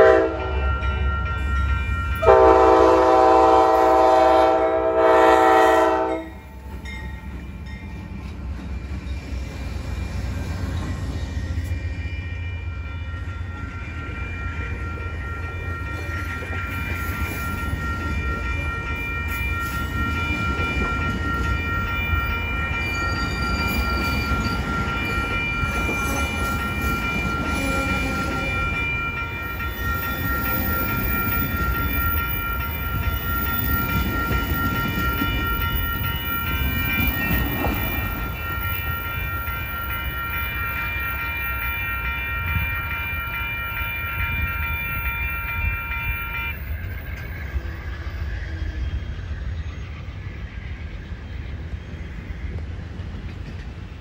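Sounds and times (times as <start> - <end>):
train cars rolling on rails: 0.0 - 54.0
thin high ringing tone: 5.8 - 52.2.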